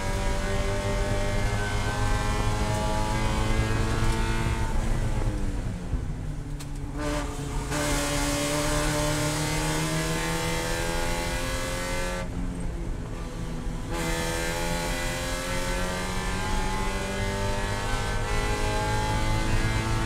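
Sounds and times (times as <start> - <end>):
race car engine revving high: 0.0 - 5.3, 6.9 - 12.3, 13.2 - 20.0.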